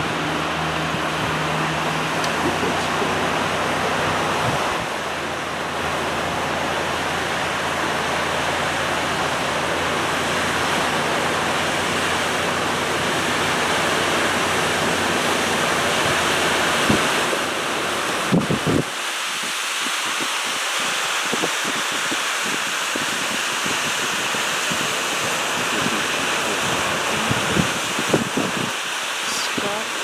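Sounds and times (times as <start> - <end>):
water pouring over dam: 0.0 - 30.0.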